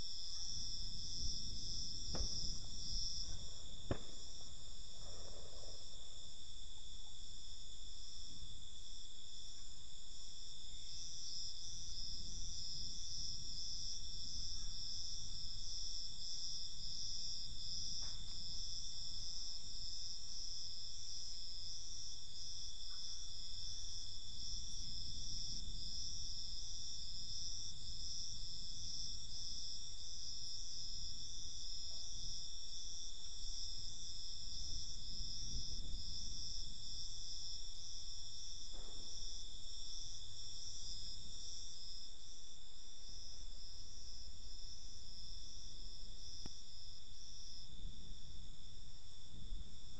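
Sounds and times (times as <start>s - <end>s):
crickets trilling: 0.0s - 9.4s, 10.0s - 49.9s.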